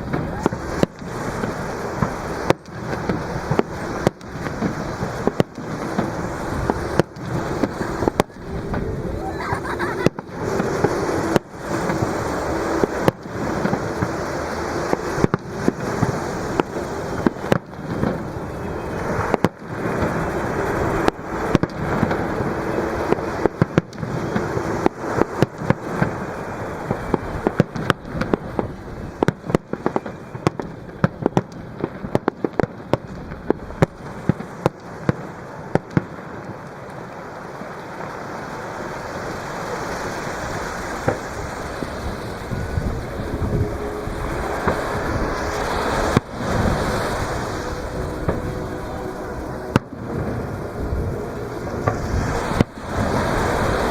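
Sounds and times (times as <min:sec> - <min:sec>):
fireworks bangs and crackling: 0:00.0 - 0:53.9
waves breaking on shore: 0:00.0 - 0:53.9.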